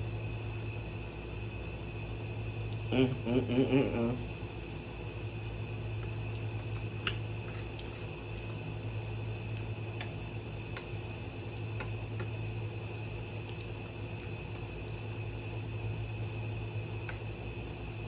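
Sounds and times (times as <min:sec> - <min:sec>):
chewing and mouth noises: 0:00.0 - 0:03.3, 0:04.1 - 0:18.0
window air conditioner hum: 0:00.0 - 0:18.0.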